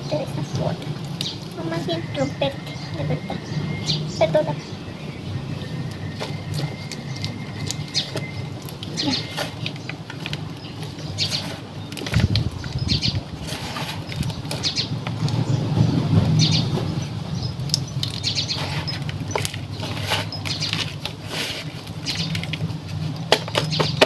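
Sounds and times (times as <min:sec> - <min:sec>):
steady low rumble: 0:00.0 - 0:23.3
rustling and scratching of soil: 0:00.0 - 0:24.0.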